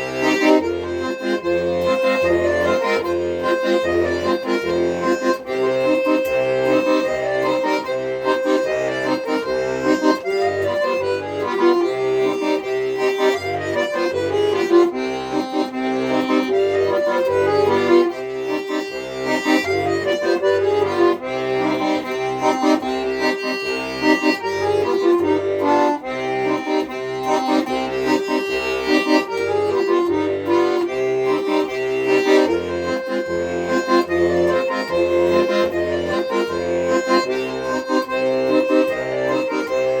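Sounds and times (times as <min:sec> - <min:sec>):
accordion folk tune: 0:00.0 - 0:40.0.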